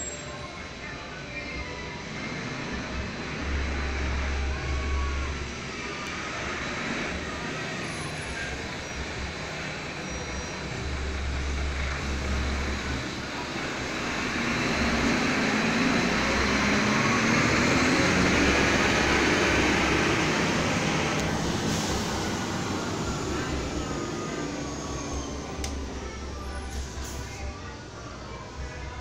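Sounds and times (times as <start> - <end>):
motor vehicle rumble and hiss: 0.0 - 29.0.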